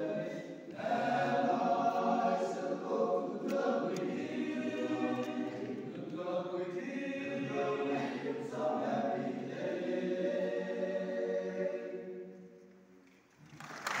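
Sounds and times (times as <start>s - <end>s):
men's choir singing: 0.0s - 12.6s.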